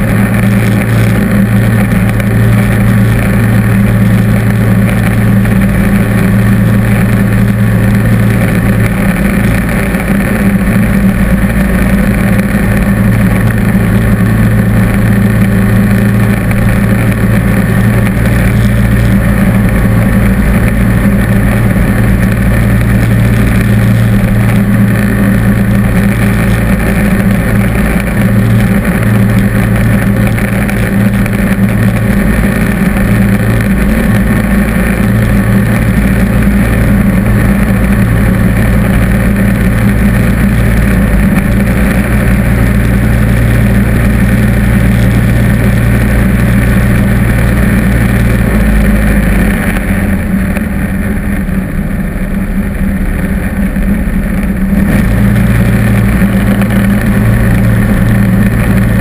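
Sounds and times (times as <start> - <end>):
lawn tractor engine drone: 0.0 - 59.0.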